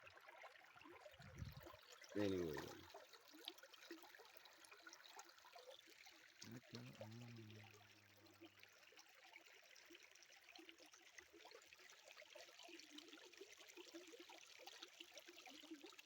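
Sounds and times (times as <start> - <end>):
stream water trickling: 0.0 - 16.0.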